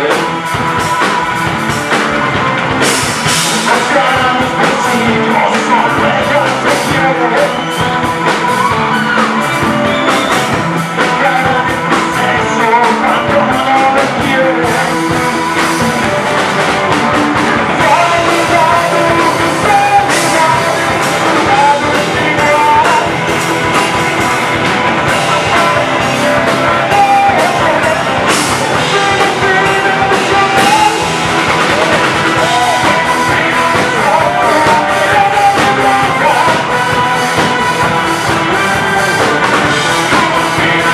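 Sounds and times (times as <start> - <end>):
bass guitar: 0.0 - 40.9
drums: 0.0 - 40.9
electric guitar: 0.0 - 40.9
man singing into a microphone: 3.4 - 16.3, 17.6 - 23.5, 25.0 - 39.3, 40.0 - 40.9.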